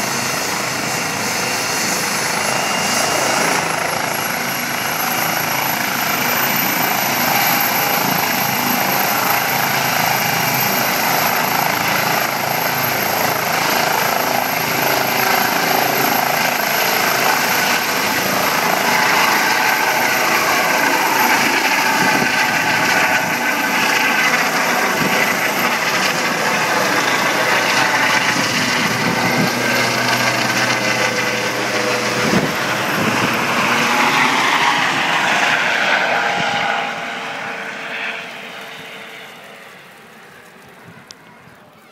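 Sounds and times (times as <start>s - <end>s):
helicopter rotor noise: 0.0s - 41.9s
high turbine whine: 0.0s - 41.9s.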